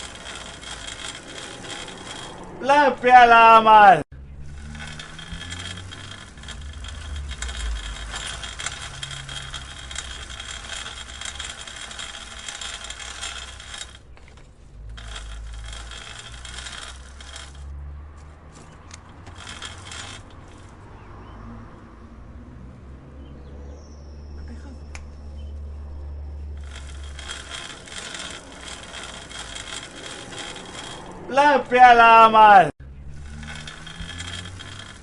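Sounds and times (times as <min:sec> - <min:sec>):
bicycle chain clicking and rattling: 0:00.0 - 0:03.6, 0:04.2 - 0:21.1, 0:26.4 - 0:35.0.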